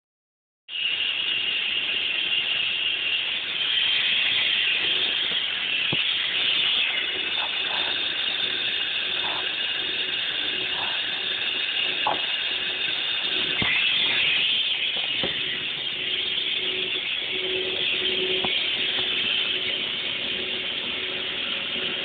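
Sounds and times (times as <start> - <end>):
machinery hiss: 0.7 - 22.0
low hum: 1.6 - 22.0.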